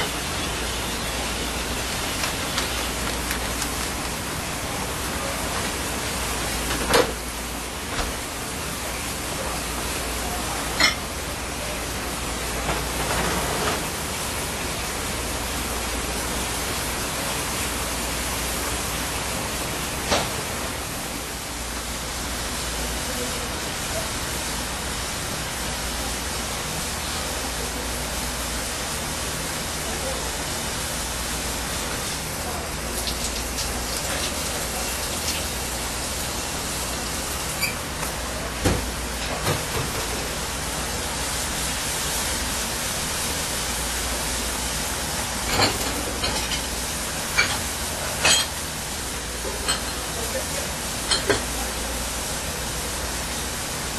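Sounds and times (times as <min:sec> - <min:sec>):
pot boiling with bubbling hiss: 0:00.0 - 0:53.9.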